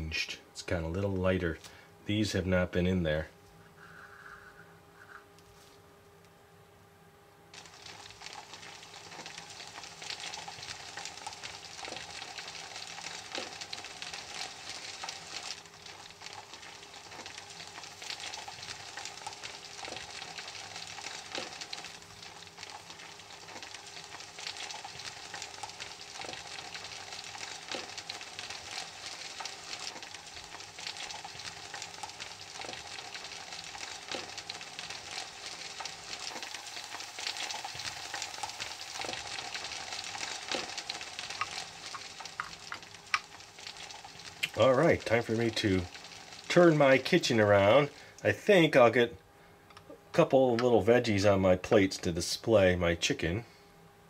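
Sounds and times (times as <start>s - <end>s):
frying sizzle with crackling: 7.5s - 53.2s.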